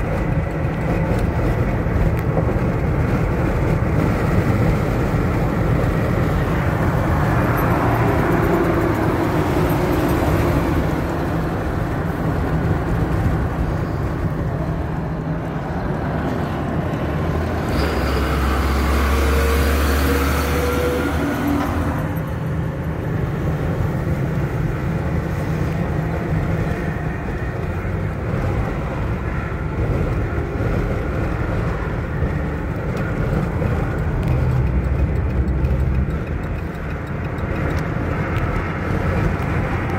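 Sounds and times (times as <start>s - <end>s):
car road and wind noise: 0.0s - 39.9s
truck engine deep hum: 0.0s - 39.9s.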